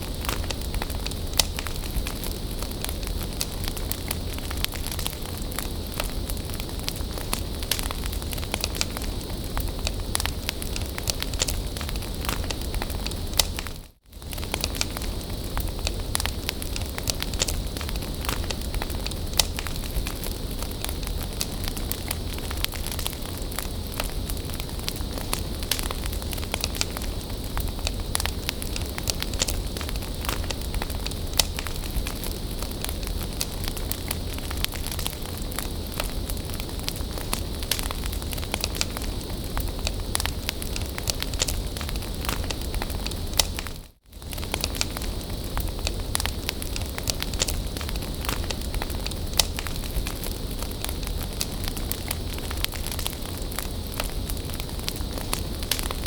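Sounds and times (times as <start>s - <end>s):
bonfire crackling and popping: 0.0s - 56.0s
fire low rumble: 0.0s - 56.0s.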